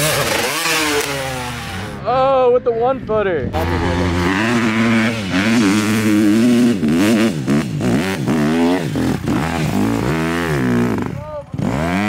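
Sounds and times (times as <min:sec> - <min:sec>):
dirt bike engine revving: 0:00.0 - 0:02.1, 0:03.5 - 0:12.0.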